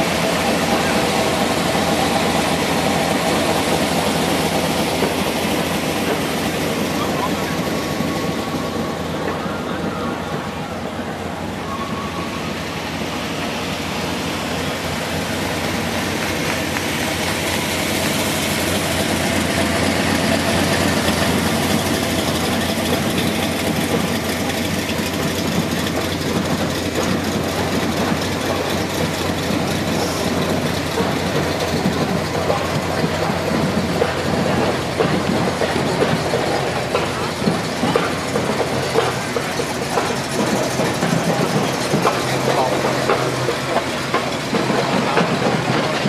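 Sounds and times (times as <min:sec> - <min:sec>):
large vehicle engine running: 0:00.0 - 0:46.0.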